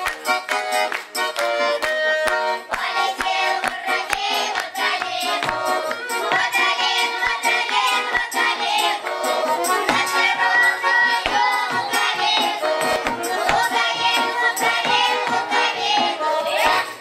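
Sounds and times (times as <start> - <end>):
accordion folk song: 0.0 - 17.0
sharp rhythmic beats: 0.0 - 17.0
children singing: 2.7 - 17.0.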